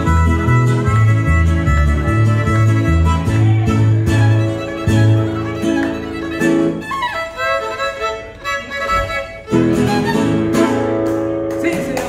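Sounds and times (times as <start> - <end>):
violin melody: 0.0 - 11.0
acoustic guitar strumming chords: 0.0 - 12.0.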